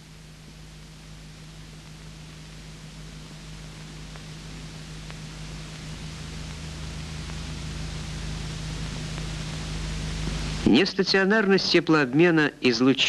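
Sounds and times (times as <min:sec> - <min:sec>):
film soundtrack hiss: 0:00.0 - 0:13.0
low electrical hum: 0:00.0 - 0:13.0.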